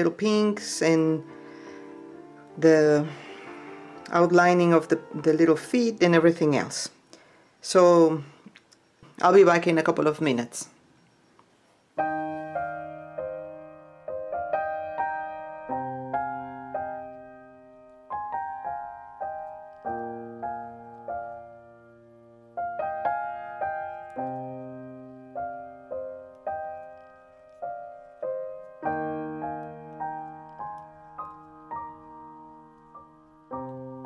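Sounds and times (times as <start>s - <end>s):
gentle piano music: 0.0s - 6.9s, 12.0s - 34.0s.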